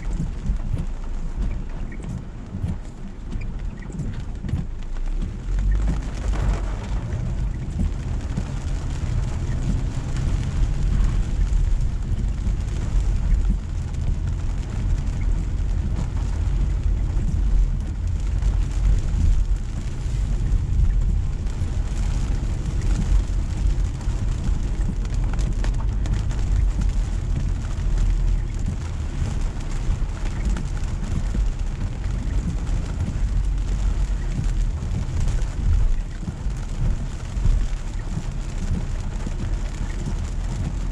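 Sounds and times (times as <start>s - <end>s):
car road and engine rumble: 0.0s - 40.9s
rain hissing on car: 0.0s - 40.9s.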